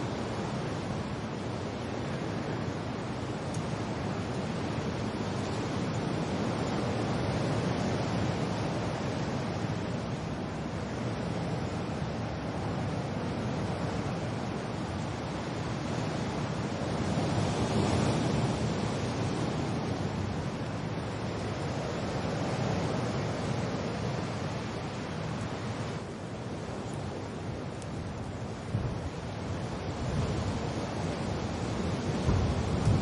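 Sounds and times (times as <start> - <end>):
wind and rain hiss: 0.0 - 33.0.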